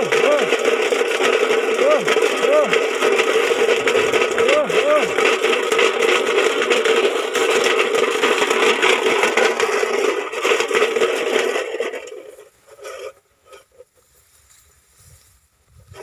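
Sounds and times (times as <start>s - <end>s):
metal tin can rattling: 0.0s - 13.8s.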